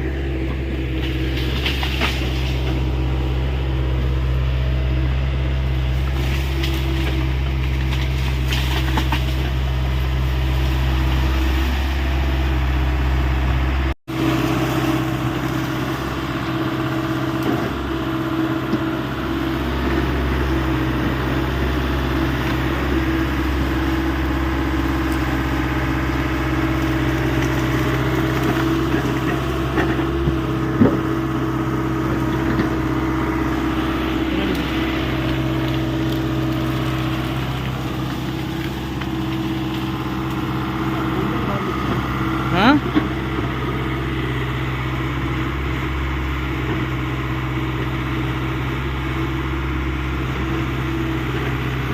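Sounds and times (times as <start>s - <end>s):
constant whine: 0.0s - 51.9s
excavator diesel engine running: 0.0s - 51.9s.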